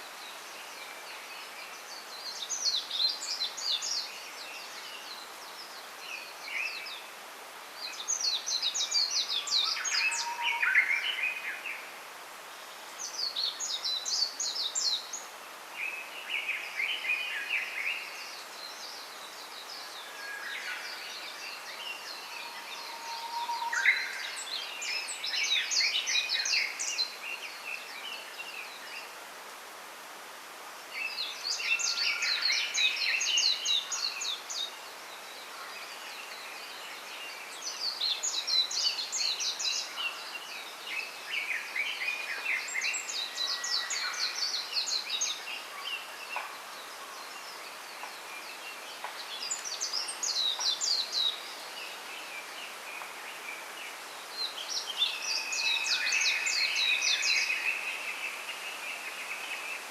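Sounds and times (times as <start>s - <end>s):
faint steady hiss: 0.0s - 59.9s
songbirds twittering: 0.0s - 59.9s.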